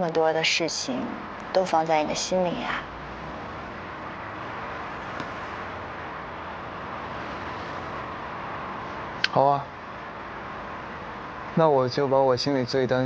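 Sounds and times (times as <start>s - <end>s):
distant traffic: 0.0s - 13.0s.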